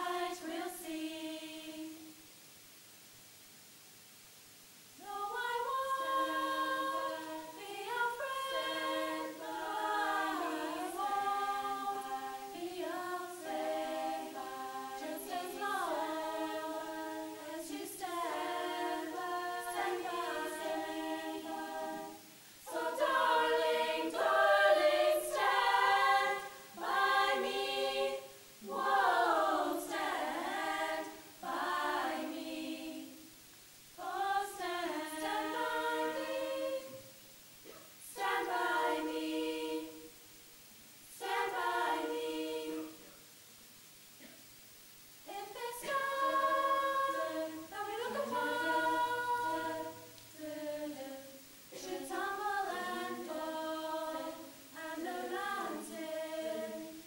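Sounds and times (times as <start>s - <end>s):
women singing in close harmony: 0.0s - 2.3s, 5.0s - 43.2s, 45.2s - 57.0s.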